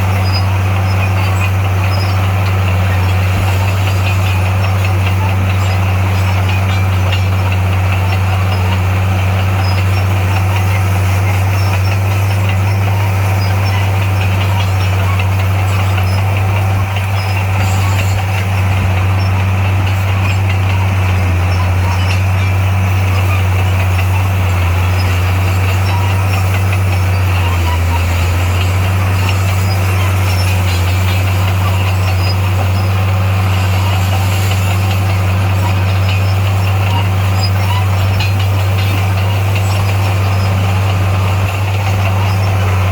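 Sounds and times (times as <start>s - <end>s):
diesel engine humming: 0.0s - 42.9s.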